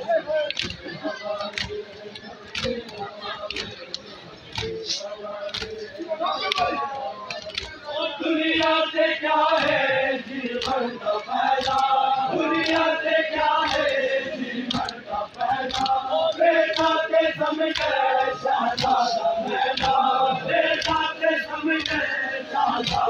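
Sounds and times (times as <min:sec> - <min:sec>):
men chanting together: 0:00.0 - 0:23.0
hands slapping chests: 0:00.4 - 0:07.8, 0:09.4 - 0:23.0.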